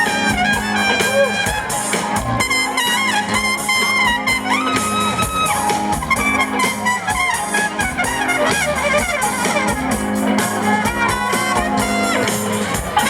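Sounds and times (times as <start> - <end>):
horn section: 0.0 - 13.0
soul band playing: 0.0 - 13.0.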